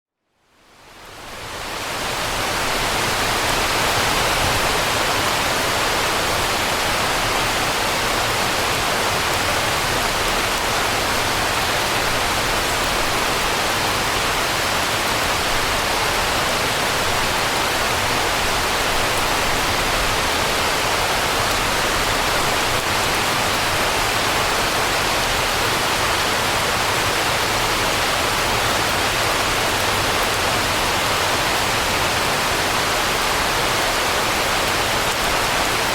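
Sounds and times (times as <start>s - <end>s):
rain on concrete: 0.5s - 35.9s.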